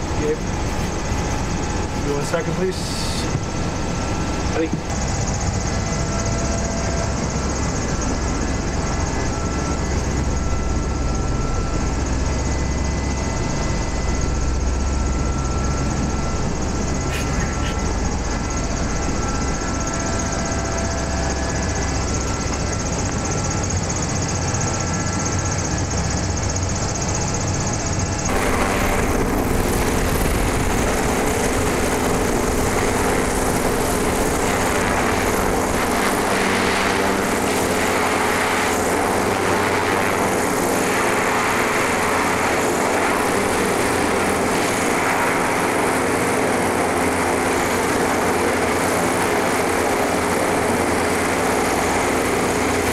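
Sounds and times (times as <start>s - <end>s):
airship propeller engines humming: 0.0s - 52.9s.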